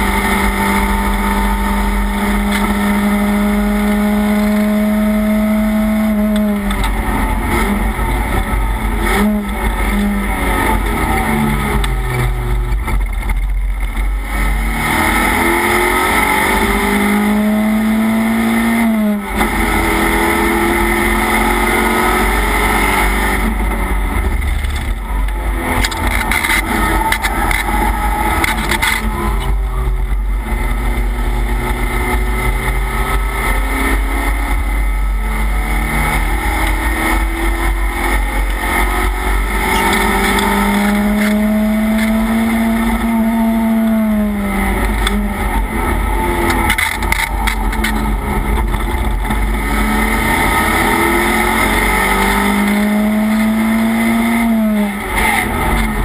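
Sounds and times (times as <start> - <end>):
race car engine under load: 0.0 - 56.0
wind and road noise: 0.0 - 56.0.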